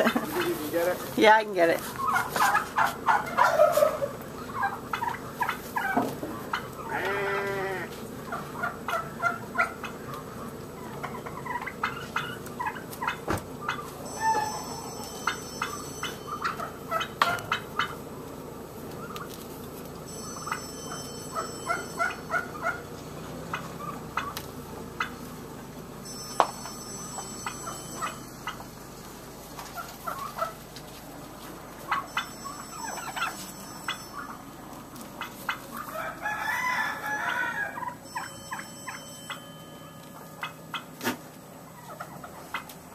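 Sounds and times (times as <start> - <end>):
farm birds calling: 0.0 - 42.9.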